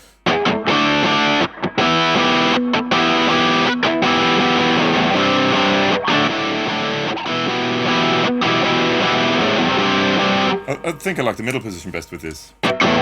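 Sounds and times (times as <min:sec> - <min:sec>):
distorted electric guitar chords: 0:00.0 - 0:10.9, 0:12.6 - 0:13.0.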